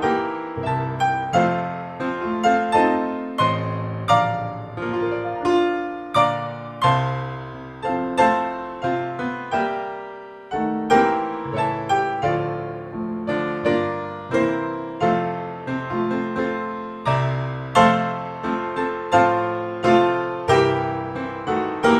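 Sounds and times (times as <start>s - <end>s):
piano music: 0.0s - 21.9s.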